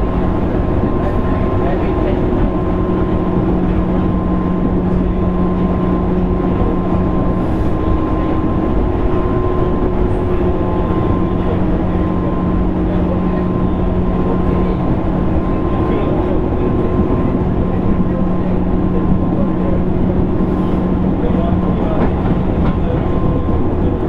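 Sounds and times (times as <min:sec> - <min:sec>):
constant low motor hum: 0:00.0 - 0:24.0
train wheels rumbling on rails: 0:00.0 - 0:24.0.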